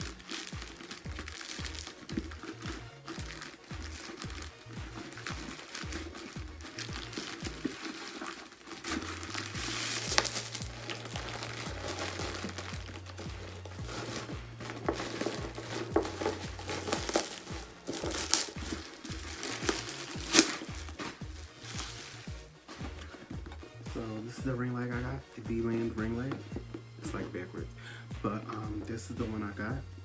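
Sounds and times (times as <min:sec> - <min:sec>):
packaging crinkling and rustling: 0:00.0 - 0:24.0
background music bass line: 0:00.0 - 0:30.0.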